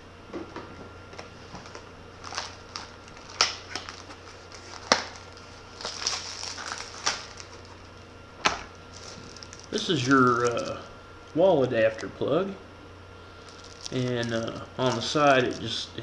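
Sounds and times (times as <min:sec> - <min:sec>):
plastic packaging crinkling: 0:01.2 - 0:12.2, 0:13.3 - 0:16.0.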